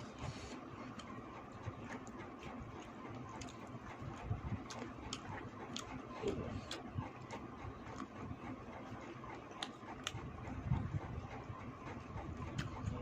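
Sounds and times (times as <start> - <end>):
chewing with clicks and smacks: 0.2 - 11.1, 11.9 - 13.0.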